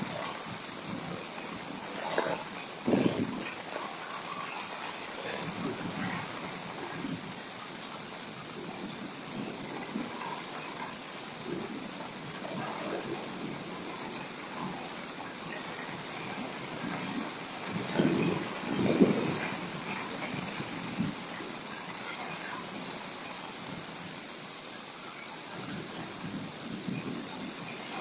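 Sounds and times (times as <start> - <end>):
heavy rain on a deck: 0.0 - 28.0.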